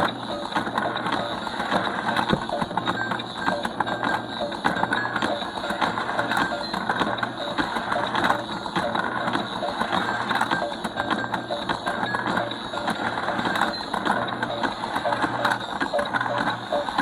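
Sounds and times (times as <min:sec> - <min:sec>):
rapid clicking: 0:00.0 - 0:17.0.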